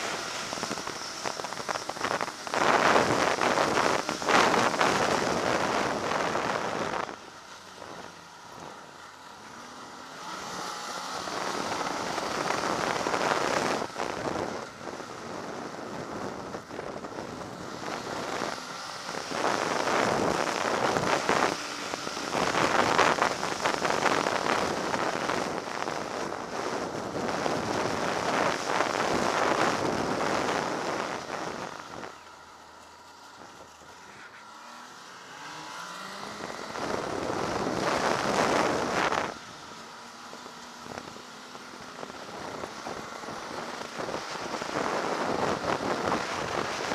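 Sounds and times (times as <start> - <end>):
snowmobile engine and track: 0.0 - 46.9.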